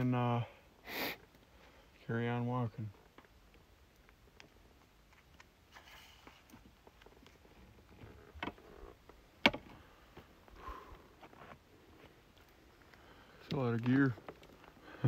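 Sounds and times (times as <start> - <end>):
faint rustling: 2.8 - 15.0.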